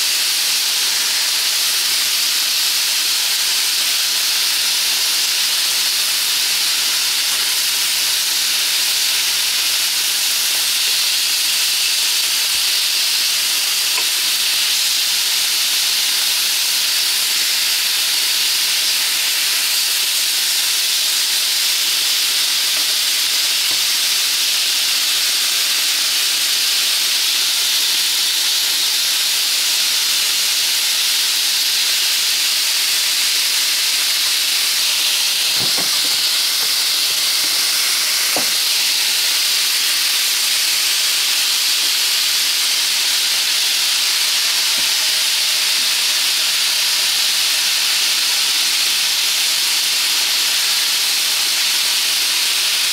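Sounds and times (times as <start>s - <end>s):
chicken sizzling in hot oil: 0.0s - 52.9s.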